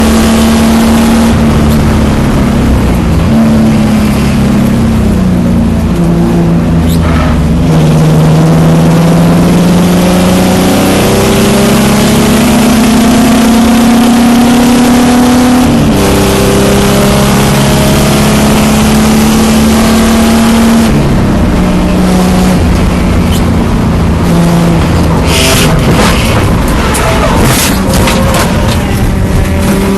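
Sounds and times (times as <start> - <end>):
car engine at full throttle: 0.0 - 29.9
wind and road noise: 0.0 - 29.9.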